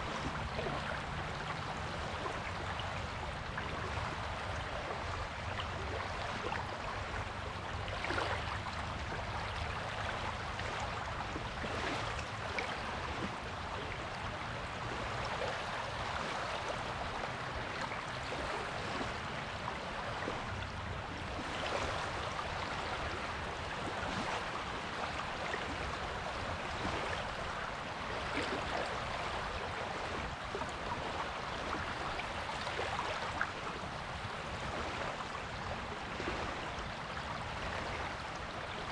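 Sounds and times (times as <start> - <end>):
small waves washing on beach: 0.0 - 38.9.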